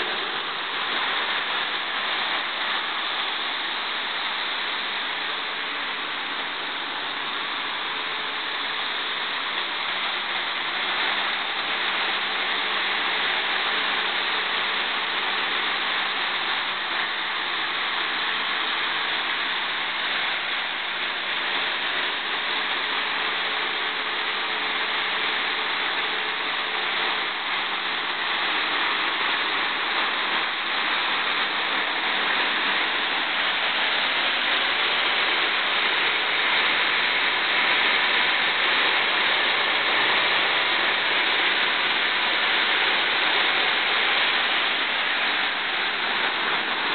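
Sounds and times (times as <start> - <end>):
faint steady hum: 0.0 - 46.9
gas turbine roaring: 0.0 - 46.9.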